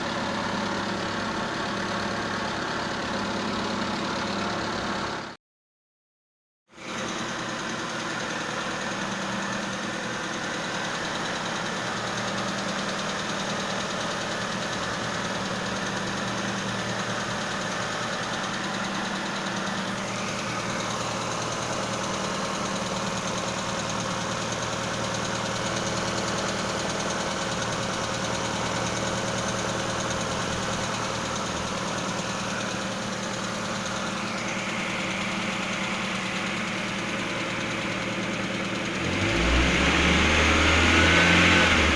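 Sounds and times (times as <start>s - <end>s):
car engine idling: 0.0s - 5.3s, 6.8s - 41.9s.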